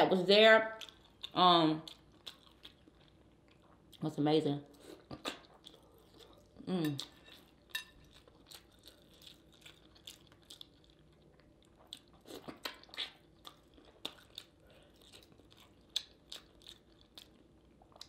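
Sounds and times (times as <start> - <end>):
person chewing food: 0.8 - 4.0, 4.7 - 18.0.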